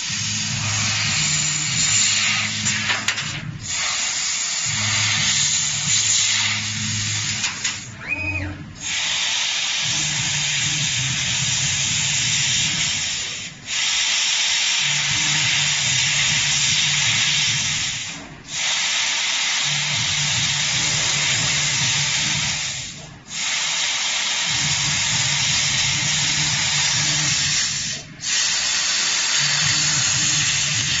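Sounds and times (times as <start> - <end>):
laser cutter hissing: 0.0 - 31.0.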